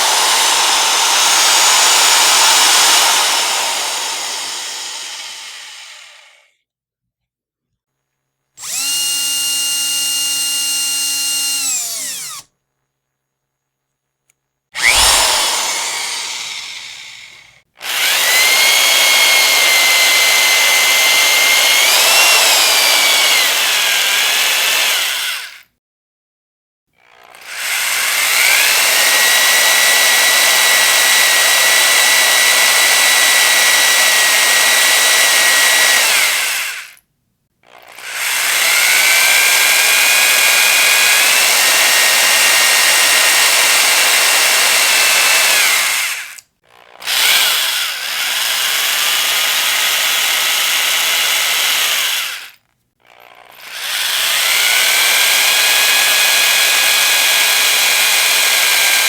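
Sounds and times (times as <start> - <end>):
electric power drill whining: 0.0 - 6.5, 8.6 - 12.5, 14.8 - 25.6, 27.3 - 37.0, 37.7 - 59.0.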